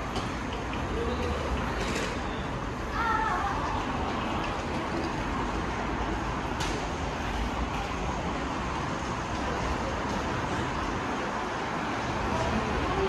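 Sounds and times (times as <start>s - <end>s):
subway platform hum and hiss: 0.0s - 13.0s.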